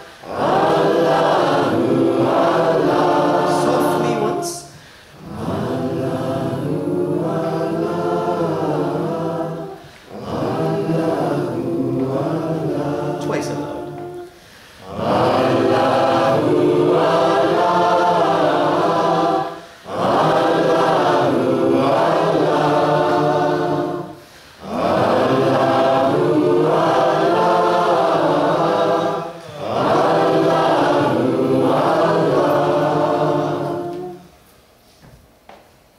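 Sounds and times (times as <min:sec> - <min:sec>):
congregation chanting in unison: 0:00.0 - 0:34.4.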